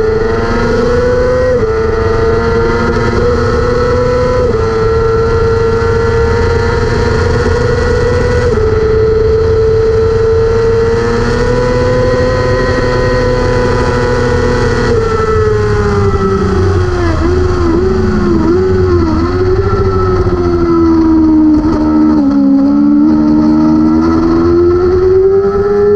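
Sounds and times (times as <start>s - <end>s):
motorcycle engine at high revs: 0.0s - 25.9s.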